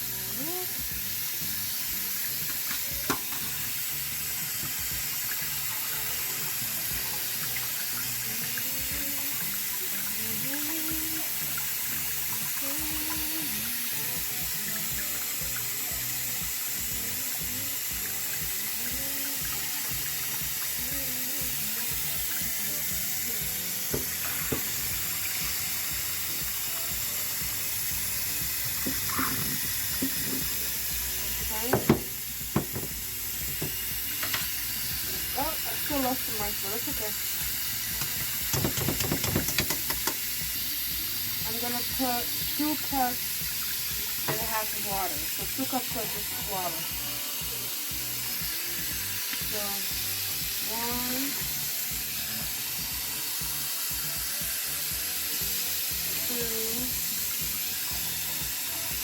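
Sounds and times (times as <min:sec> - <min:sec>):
tap water running over rice: 0:00.0 - 0:59.0.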